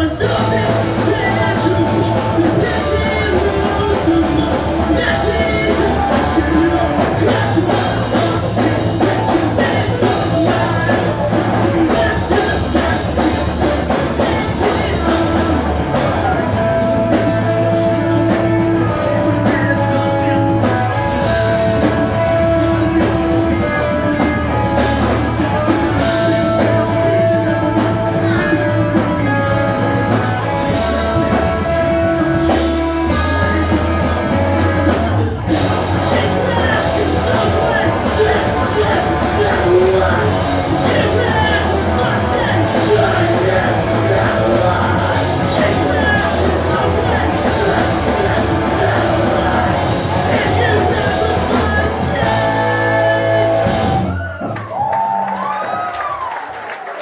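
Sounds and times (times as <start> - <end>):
person singing: 0.0 - 54.2
bass guitar: 0.0 - 56.4
electric guitars: 0.0 - 56.4
drums: 0.0 - 57.0.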